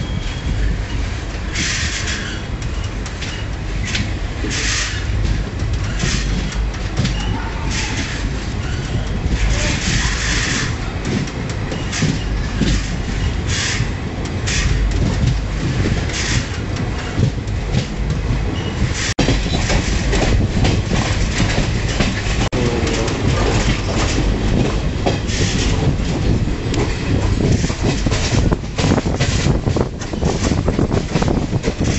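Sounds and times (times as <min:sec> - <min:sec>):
train wagons rumbling: 0:00.0 - 0:31.9
wheels clacking over rail joints: 0:00.0 - 0:31.9.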